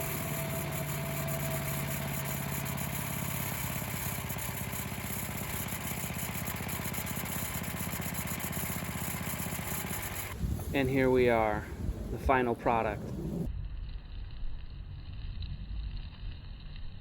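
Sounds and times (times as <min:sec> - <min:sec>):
small engine running steadily: 0:00.0 - 0:17.0.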